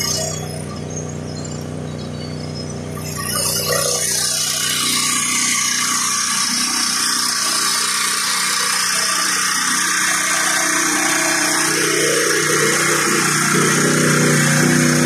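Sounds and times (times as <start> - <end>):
rock drilling rig running: 0.0 - 15.0.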